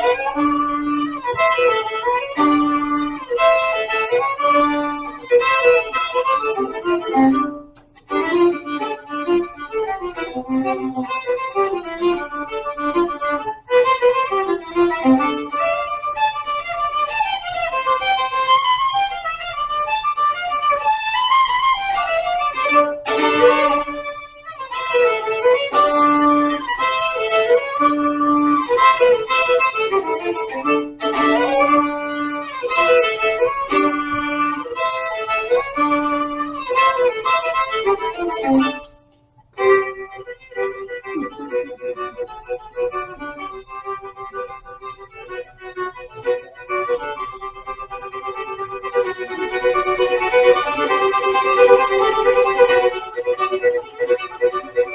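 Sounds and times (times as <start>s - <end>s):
violin playing a quick tune: 0.0s - 54.9s.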